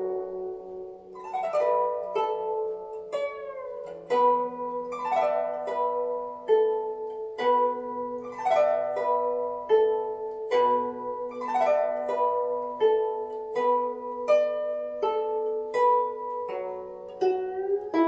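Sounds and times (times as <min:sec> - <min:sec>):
glissando across zither strings: 0:00.0 - 0:18.0
zither plucked melody: 0:00.0 - 0:18.0.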